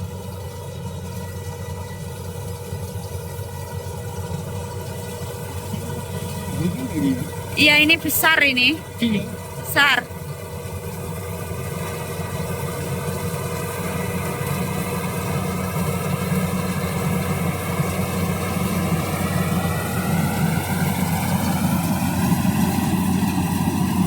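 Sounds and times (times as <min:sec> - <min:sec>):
harvester engine running: 0:00.0 - 0:24.0.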